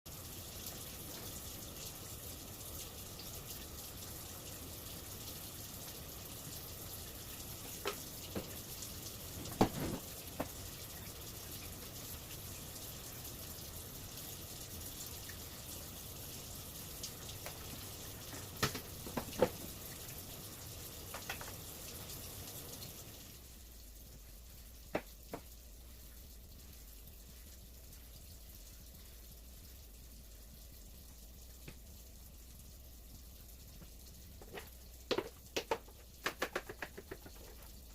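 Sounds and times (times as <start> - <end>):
running water rushing: 0.1 - 32.2.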